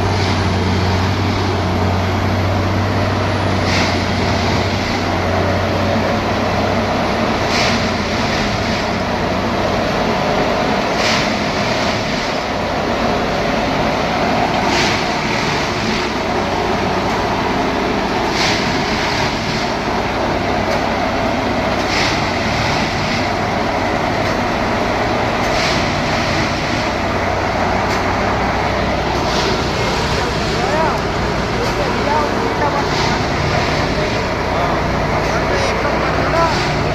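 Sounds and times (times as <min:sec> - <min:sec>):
sharp bursts of machine noise: 0:00.0 - 0:05.8, 0:07.2 - 0:09.5, 0:10.8 - 0:12.8, 0:13.9 - 0:36.9
loud machine din: 0:00.0 - 0:36.9.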